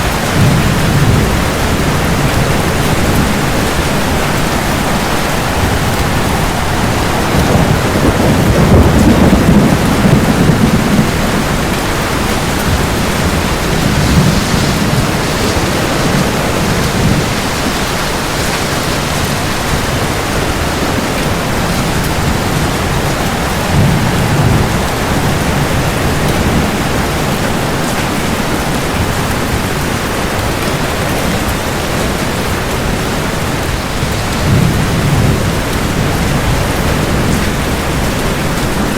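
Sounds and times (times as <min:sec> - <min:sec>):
heavy rain hissing: 0:00.0 - 0:38.9
low thunder rolls: 0:00.0 - 0:38.9.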